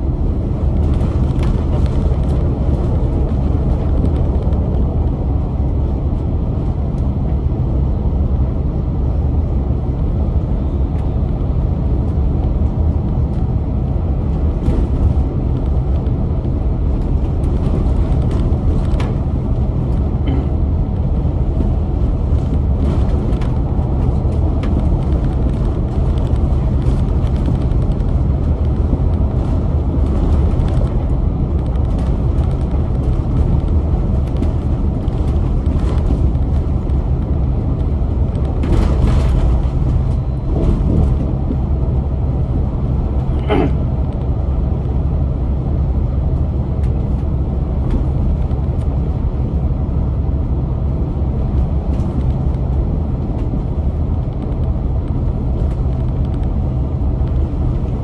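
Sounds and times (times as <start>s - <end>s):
bus engine rumble and road noise: 0.0s - 58.0s.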